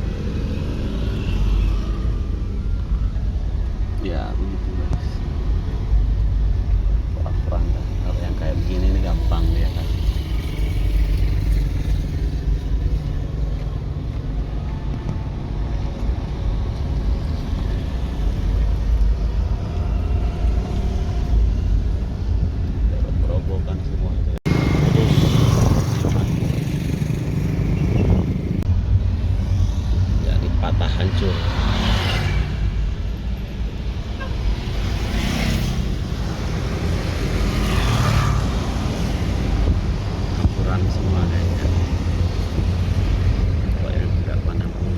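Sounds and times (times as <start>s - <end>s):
vehicle engine and road noise: 0.0s - 44.9s.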